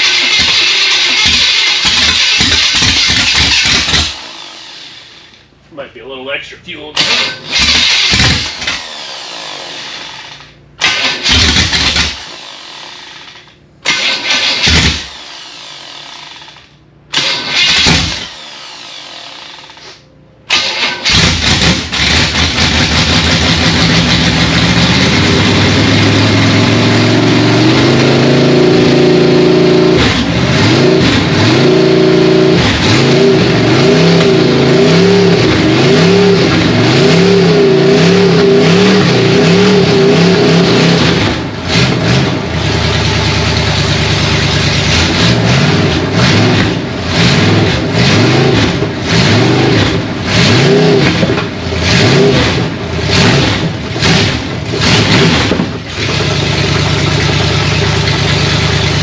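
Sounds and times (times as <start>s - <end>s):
engine firing and revving: 0.0s - 5.4s, 7.0s - 19.7s, 20.4s - 59.0s.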